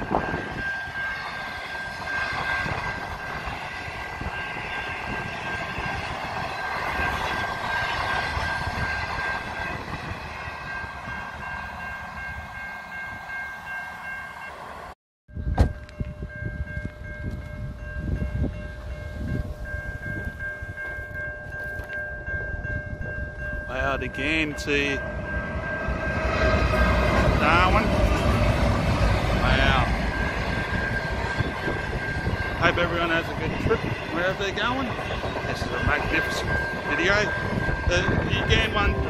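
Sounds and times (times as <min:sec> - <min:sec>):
crossing warning bells ringing: 0:00.0 - 0:39.0
train rolling over rails: 0:00.0 - 0:39.0.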